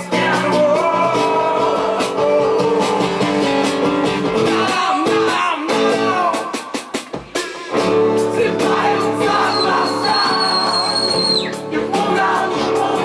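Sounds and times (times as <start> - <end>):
drums: 0.0 - 13.0.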